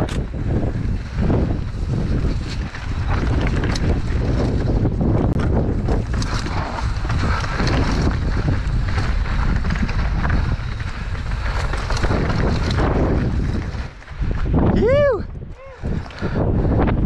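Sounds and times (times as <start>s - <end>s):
bike knocks and rattles: 0.0s - 14.5s
tyres rumbling on rock and dirt: 0.0s - 14.7s
wind buffeting microphone: 0.0s - 17.0s.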